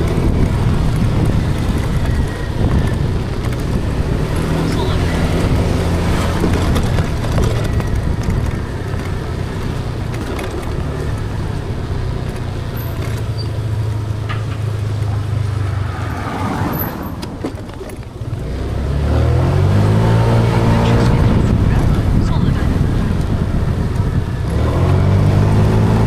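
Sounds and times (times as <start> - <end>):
car engine hum: 0.0 - 26.0
tyre noise: 0.0 - 26.0.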